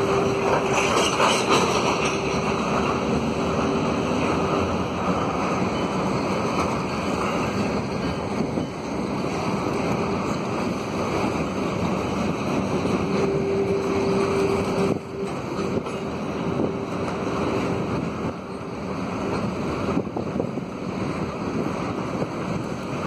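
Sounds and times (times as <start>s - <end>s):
freight cars rumbling on bridge: 0.0s - 23.0s.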